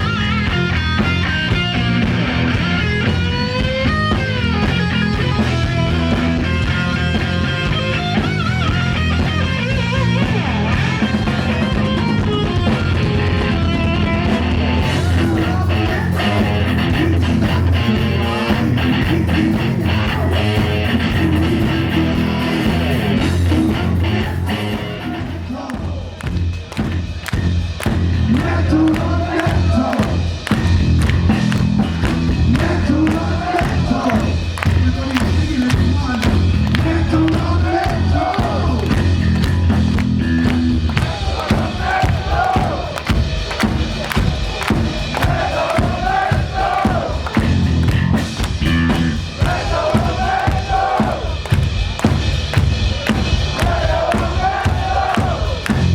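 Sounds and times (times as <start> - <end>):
electric guitar: 0.0 - 26.0, 26.7 - 55.9
heavy metal band playing live: 0.0 - 55.9.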